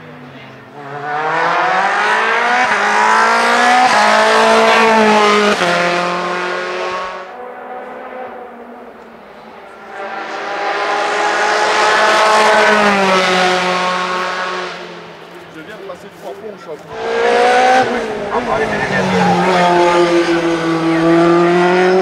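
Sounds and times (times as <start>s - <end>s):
race car engine at full throttle: 0.0s - 22.0s.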